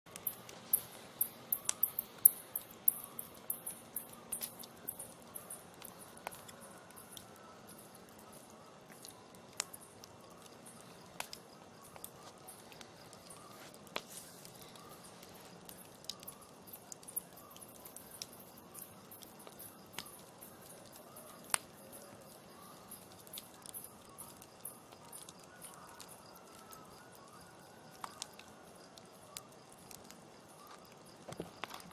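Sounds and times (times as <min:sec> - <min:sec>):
campfire crackling: 0:00.1 - 0:31.9
faint steady hiss: 0:00.1 - 0:31.9.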